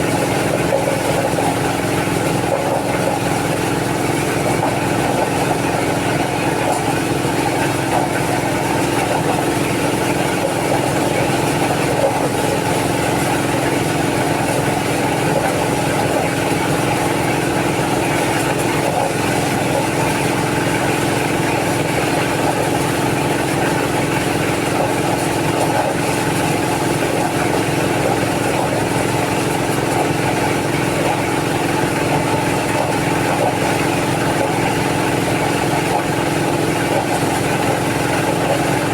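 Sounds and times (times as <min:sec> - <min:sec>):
corn-shelling machine running: 0:00.0 - 0:38.9.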